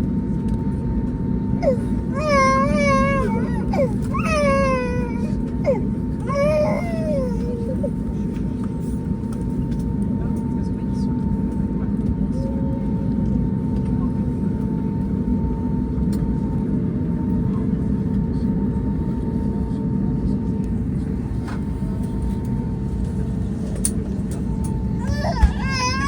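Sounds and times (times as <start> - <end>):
aircraft cabin rumble: 0.4 - 26.0.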